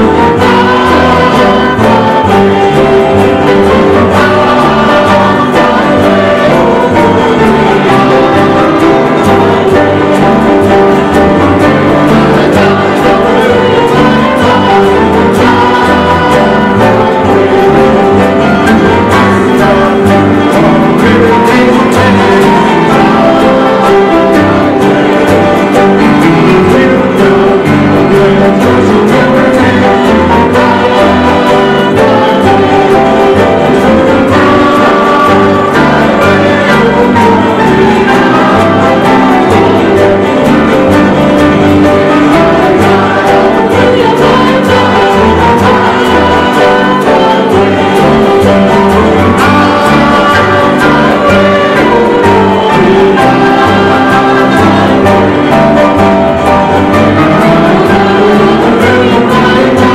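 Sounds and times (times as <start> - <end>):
group singing gospel song: 0.0 - 59.9
pulsing bass: 0.0 - 59.9.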